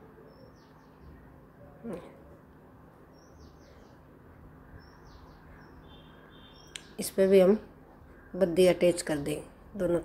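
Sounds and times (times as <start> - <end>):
faint bird chirps: 0.0 - 2.4, 3.1 - 9.3
low room noise: 0.0 - 10.0.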